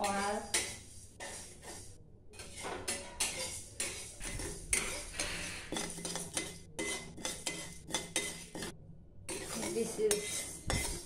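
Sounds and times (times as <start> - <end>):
metal spatula scraping metal pan: 0.0 - 11.0.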